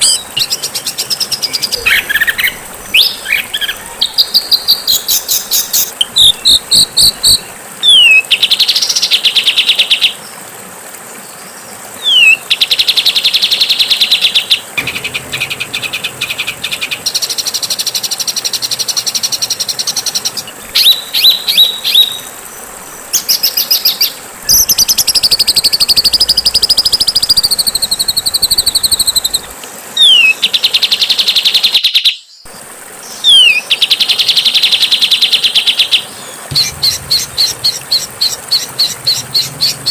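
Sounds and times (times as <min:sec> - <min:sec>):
songbird song: 0:00.0 - 0:39.9.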